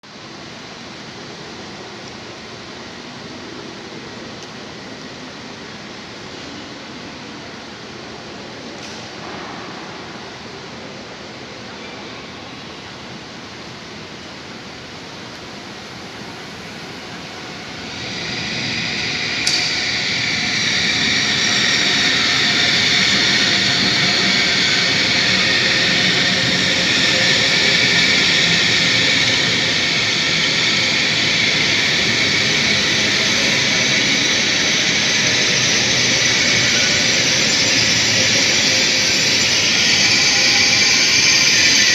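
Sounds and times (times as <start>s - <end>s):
train rolling noise: 0.1s - 41.9s.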